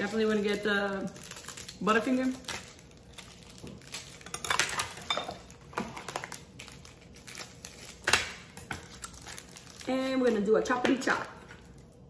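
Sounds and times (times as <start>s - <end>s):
candy wrapper crinkling: 0.0s - 12.0s.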